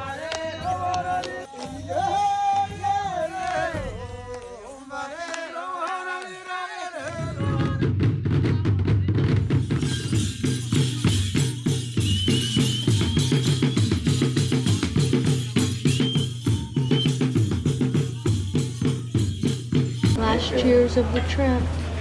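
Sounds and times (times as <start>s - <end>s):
fast hand percussion drumming: 0.0s - 21.8s.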